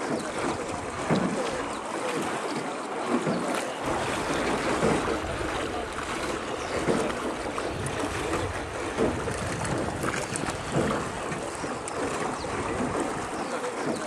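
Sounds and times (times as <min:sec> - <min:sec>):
wind rumbling on microphone: 0:00.0 - 0:01.8, 0:03.8 - 0:14.0
water lapping around boat: 0:00.0 - 0:14.0.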